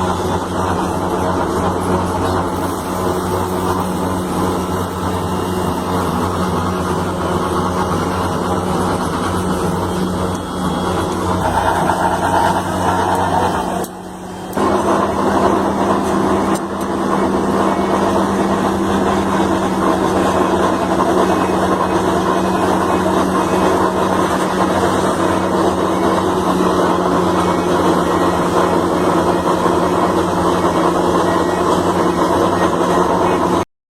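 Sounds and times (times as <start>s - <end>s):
construction machinery engine humming: 0.0s - 33.6s.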